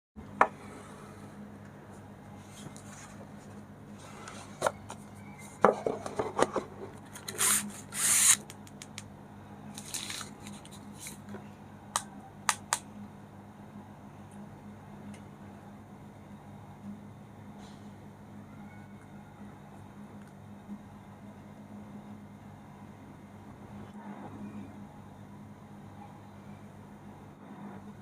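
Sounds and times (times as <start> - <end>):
faint steady hum: 0.2 - 28.0.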